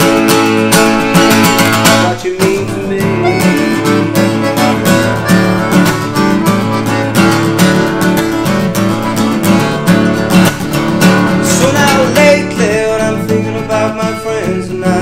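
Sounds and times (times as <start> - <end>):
acoustic guitar strumming: 0.0 - 15.0
button accordion melody: 0.0 - 15.0.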